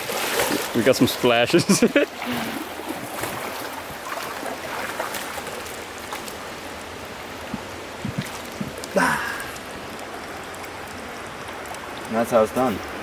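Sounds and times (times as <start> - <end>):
stream current rushing: 0.0 - 13.0.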